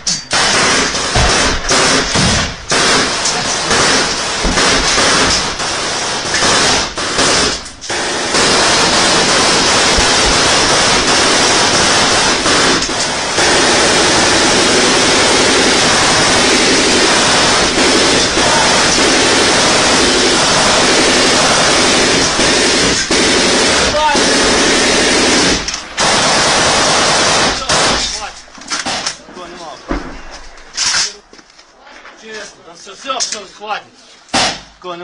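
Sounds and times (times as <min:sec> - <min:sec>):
automatic weapon fire: 0:00.3 - 0:29.1.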